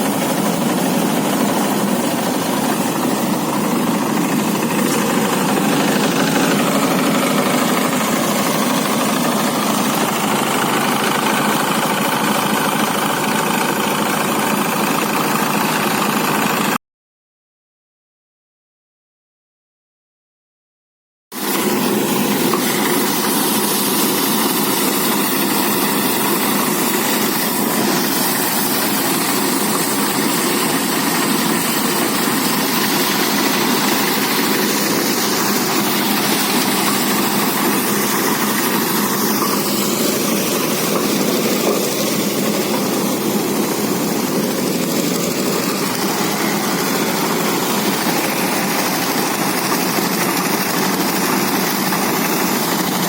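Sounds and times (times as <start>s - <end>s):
threshing machine droning: 0.0s - 16.8s, 21.4s - 53.0s.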